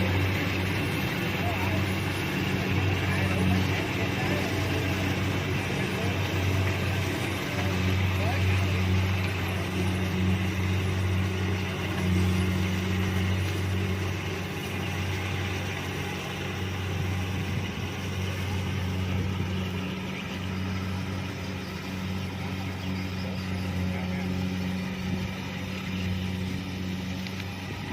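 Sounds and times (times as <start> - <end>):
combine harvester engine droning: 0.0 - 27.9.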